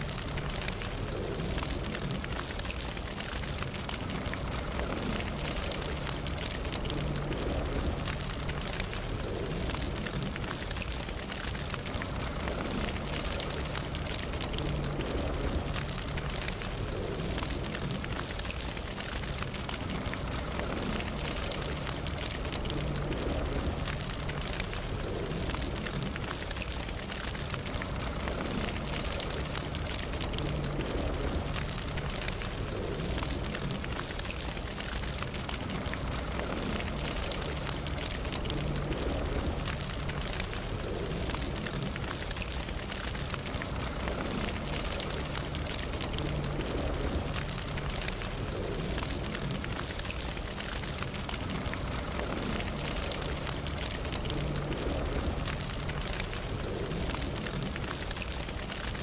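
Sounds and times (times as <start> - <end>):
campfire burning: 0.0 - 59.0.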